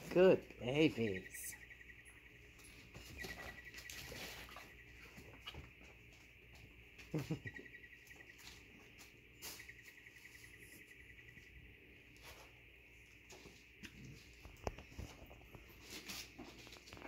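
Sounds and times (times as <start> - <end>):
faint high pulsing hum: 0.0 - 16.5
paws scuffling and scratching: 2.0 - 7.1, 8.0 - 17.0.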